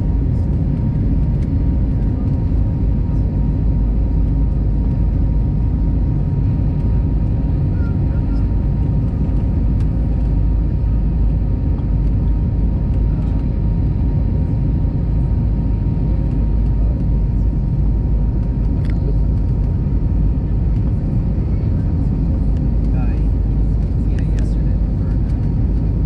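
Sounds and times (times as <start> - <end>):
jet engine low rumble: 0.0 - 26.0.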